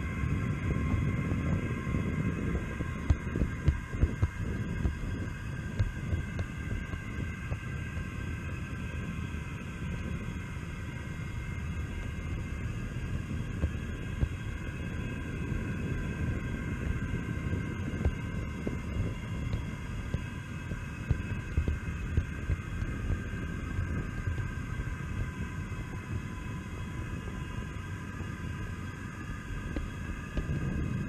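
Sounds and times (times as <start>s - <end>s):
wheels rumbling on rails: 0.0s - 31.0s.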